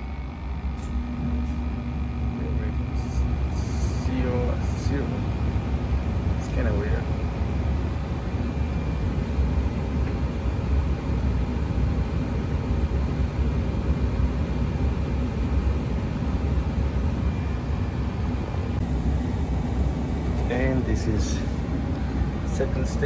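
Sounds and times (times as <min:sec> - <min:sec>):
faint high whine: 0:00.0 - 0:23.0
furnace burner and fan rumble: 0:00.0 - 0:23.0.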